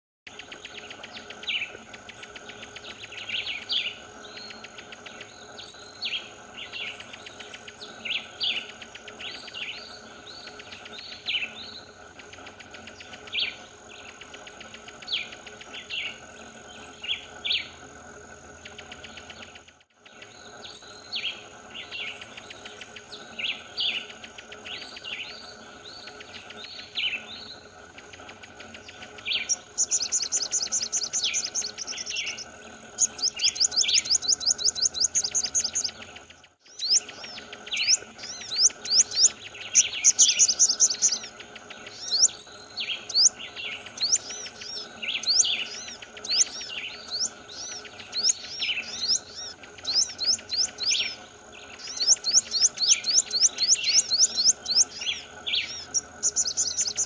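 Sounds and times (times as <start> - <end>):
songbirds chirping and whistling: 0.3 - 57.0
high bird trill: 0.4 - 17.8, 20.2 - 57.0.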